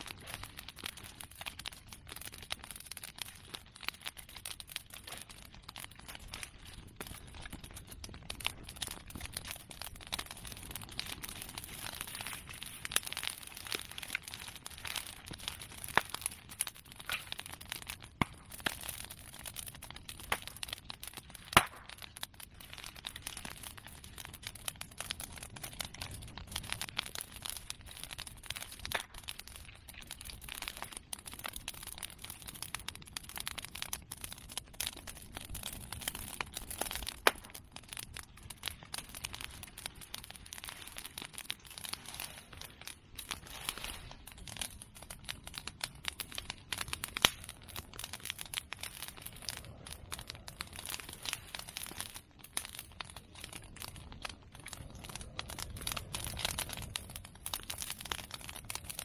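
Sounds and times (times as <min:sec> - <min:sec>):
bonfire crackling: 0:00.0 - 0:59.0
loud fire pops: 0:00.0 - 0:59.0.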